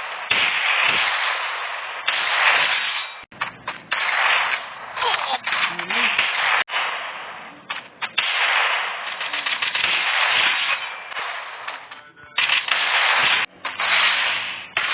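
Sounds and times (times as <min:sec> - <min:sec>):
pistol shots echoing: 0:00.0 - 0:14.9.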